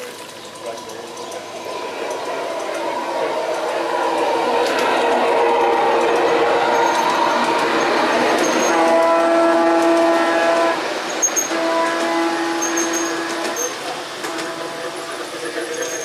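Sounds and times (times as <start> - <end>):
model train running on track: 0.0 - 16.0
sustained pitched tones: 0.4 - 14.9.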